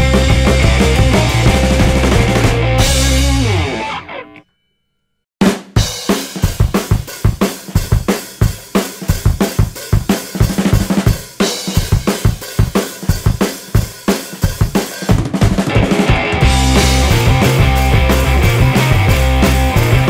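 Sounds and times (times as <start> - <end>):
rock music with fast drums: 0.0 - 4.4, 5.4 - 20.0.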